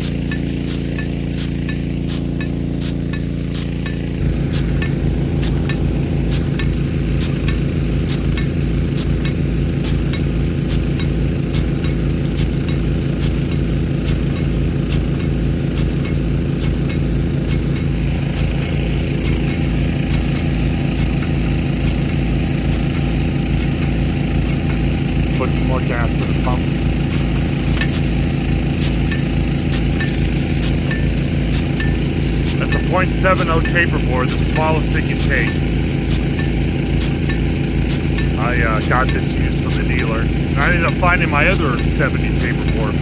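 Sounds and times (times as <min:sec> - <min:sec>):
petrol water pump running: 0:00.0 - 0:43.0
water spray hissing: 0:00.0 - 0:43.0.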